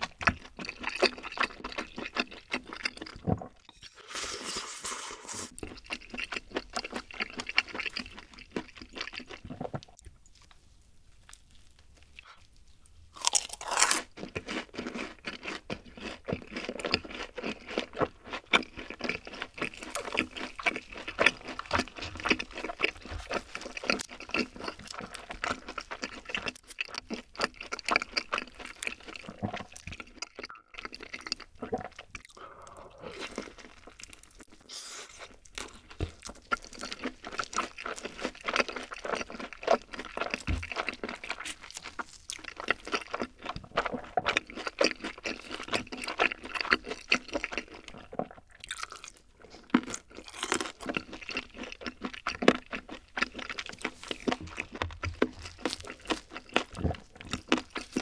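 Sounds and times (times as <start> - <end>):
crunching and chewing fried chicken: 0.0 - 58.0.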